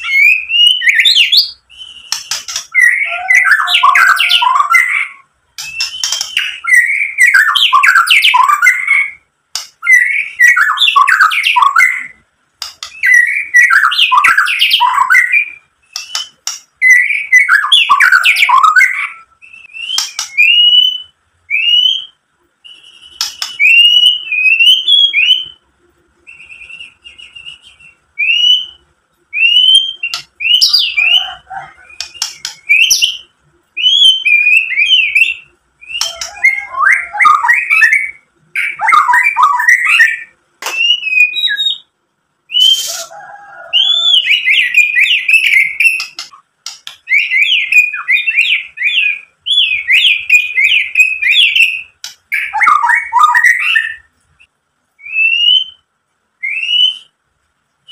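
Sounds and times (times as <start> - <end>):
songbird singing varied phrases: 0.0 - 25.7, 26.3 - 43.1, 43.7 - 57.2.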